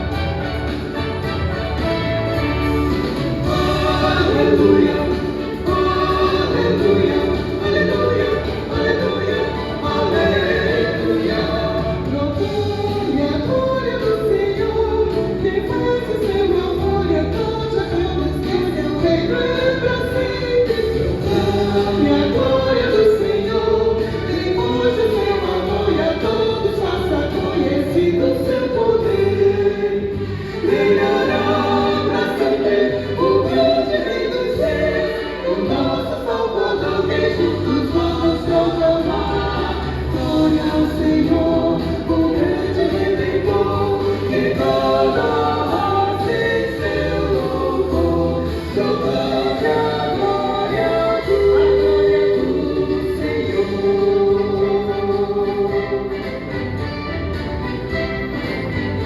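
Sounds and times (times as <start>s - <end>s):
vocal ensemble singing in harmony: 0.0s - 59.0s.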